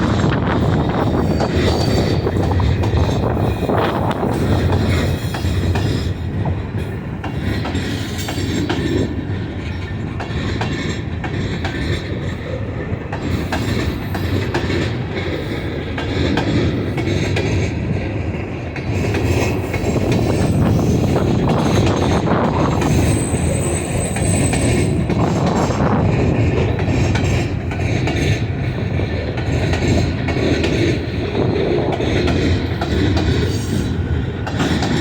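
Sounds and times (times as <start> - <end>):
train rumble: 0.0 - 35.0
train wheels clicking over rail joints: 0.0 - 35.0.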